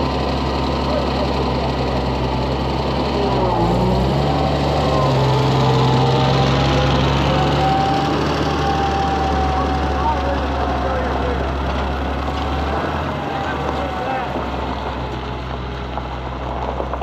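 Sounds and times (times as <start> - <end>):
farm machine engine running: 0.0 - 17.0.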